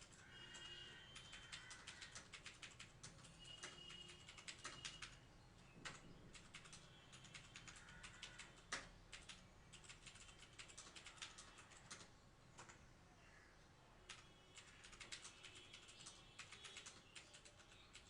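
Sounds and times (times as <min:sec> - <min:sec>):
mechanical keyboard typing clicks: 0:00.0 - 0:05.2, 0:05.8 - 0:12.8, 0:14.1 - 0:18.0.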